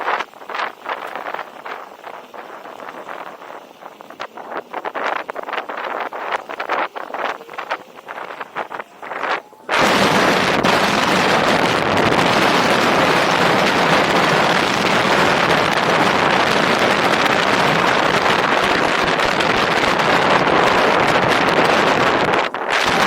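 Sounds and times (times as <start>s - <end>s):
wind rushing on microphone: 0.0s - 23.0s.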